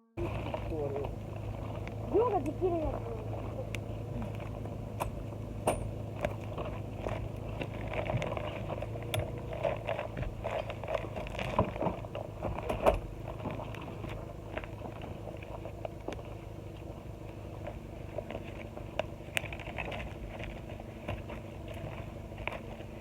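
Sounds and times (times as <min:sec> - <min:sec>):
campfire crackling: 0:00.2 - 0:23.0
low fire rumble: 0:00.2 - 0:23.0.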